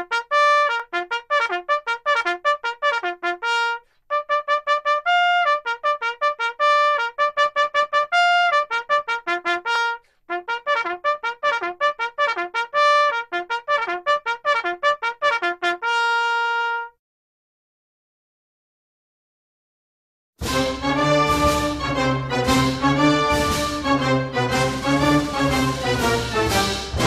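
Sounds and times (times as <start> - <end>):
trumpet playing bugle call: 0.0 - 17.0, 20.4 - 27.0.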